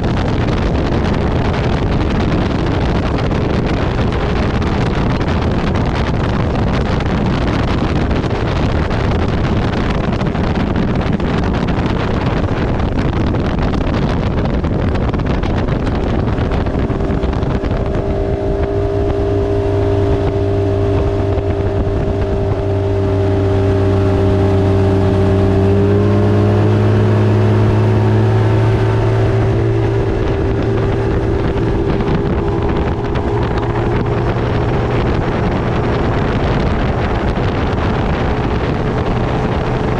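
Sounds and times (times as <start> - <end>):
motorboat engine running: 0.0 - 39.9
wind buffeting microphone: 0.0 - 39.9.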